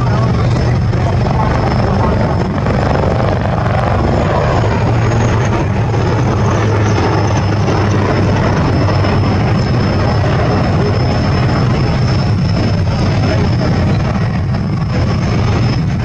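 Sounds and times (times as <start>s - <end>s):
helicopter rotor thrum: 0.0s - 16.0s
high engine whine: 0.0s - 16.0s.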